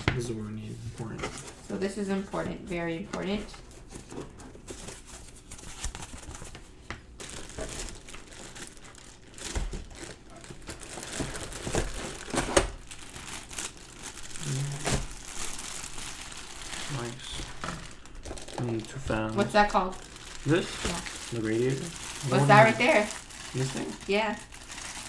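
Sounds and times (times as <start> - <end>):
plastic packaging crinkling: 3.2 - 25.0.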